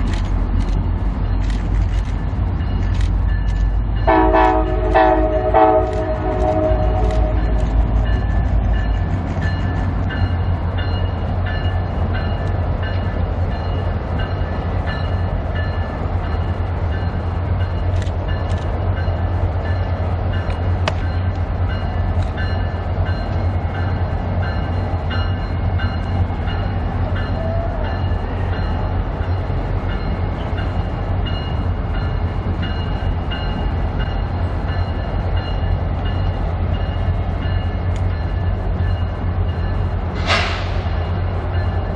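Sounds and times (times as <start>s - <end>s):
deep locomotive engine rumble: 0.0s - 41.9s
train wheels clicking on rails: 0.0s - 41.9s.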